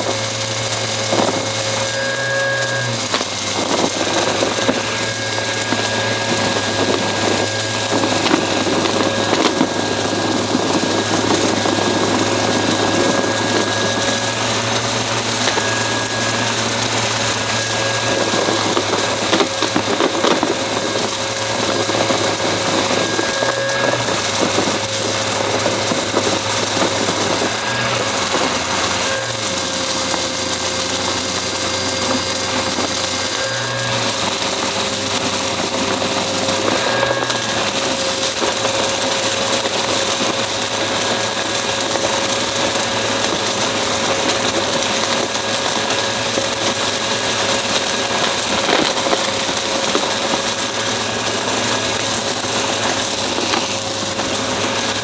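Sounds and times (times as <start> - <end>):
debris crackling in vacuum: 0.0 - 55.0
vacuum cleaner motor humming: 0.0 - 55.0.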